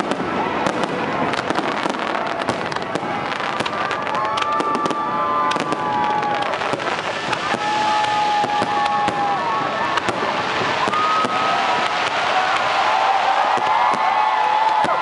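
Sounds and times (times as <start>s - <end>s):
fireworks cracking and banging: 0.0s - 15.0s
fireworks whistling: 0.0s - 15.0s.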